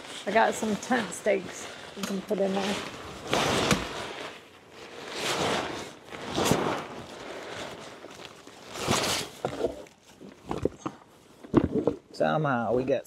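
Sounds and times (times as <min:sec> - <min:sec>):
rustling camping gear: 0:00.0 - 0:12.2.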